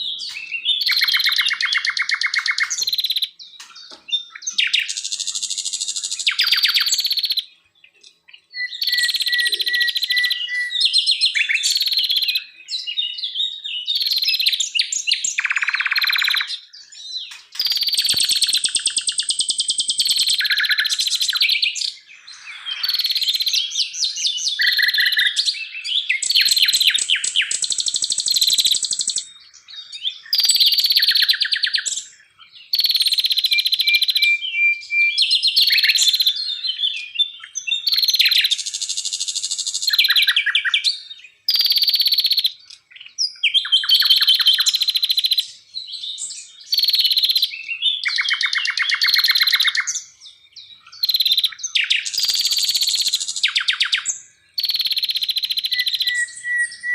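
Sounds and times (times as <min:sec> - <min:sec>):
songbird trilling: 0:00.0 - 0:56.9.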